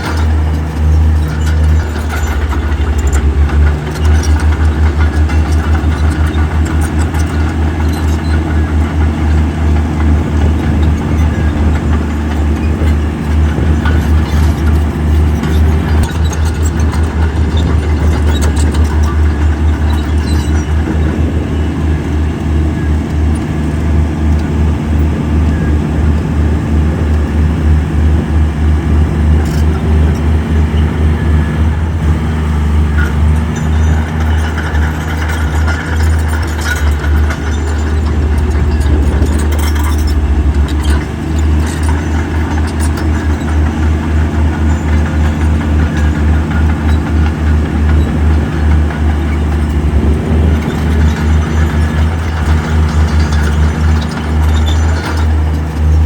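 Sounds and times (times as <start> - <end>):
heavy diesel engine throbbing: 0.0 - 56.0.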